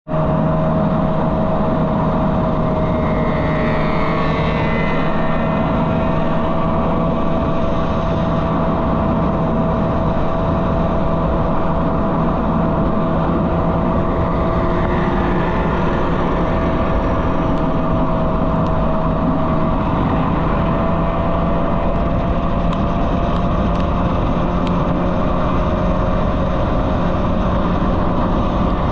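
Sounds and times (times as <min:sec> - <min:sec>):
motorcycle engine running: 0:00.1 - 0:28.9
motorcycles whining: 0:00.2 - 0:28.9.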